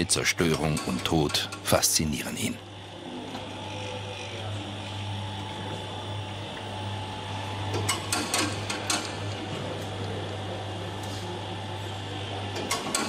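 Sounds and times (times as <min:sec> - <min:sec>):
electric motor hum: 0:00.4 - 0:13.0.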